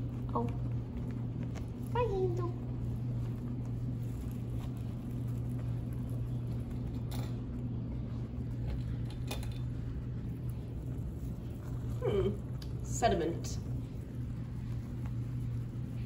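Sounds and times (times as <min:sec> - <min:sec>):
guinea pigs rustling in hay: 0:00.0 - 0:16.0
low background hum: 0:00.0 - 0:16.0.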